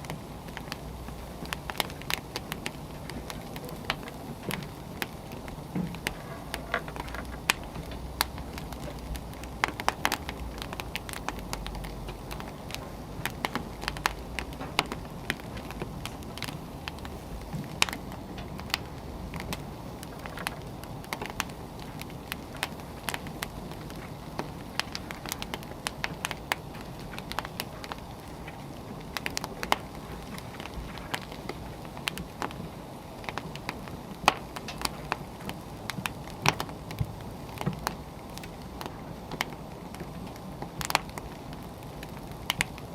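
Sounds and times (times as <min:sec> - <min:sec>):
logs crackling and popping: 0:00.0 - 0:42.9
wood fire hissing: 0:00.0 - 0:42.9.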